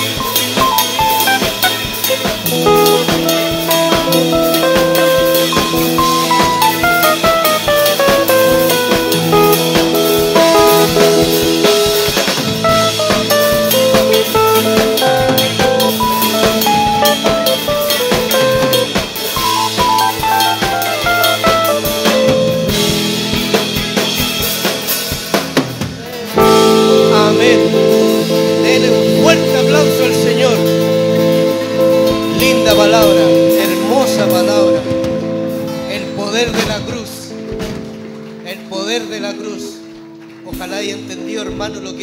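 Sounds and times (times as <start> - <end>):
drum kit: 0.0 - 39.2
guitar playing: 0.0 - 42.0
keyboard playing: 0.0 - 42.0.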